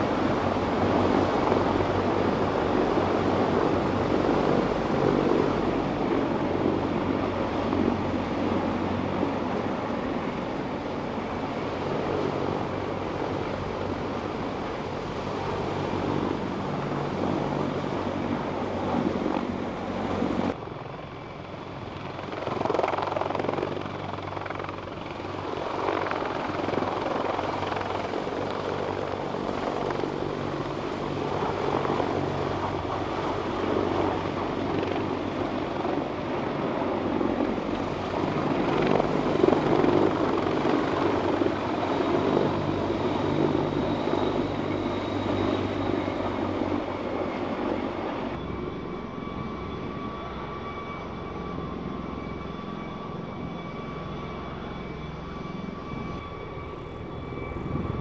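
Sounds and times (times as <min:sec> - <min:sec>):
helicopters running: 0:00.0 - 0:58.0.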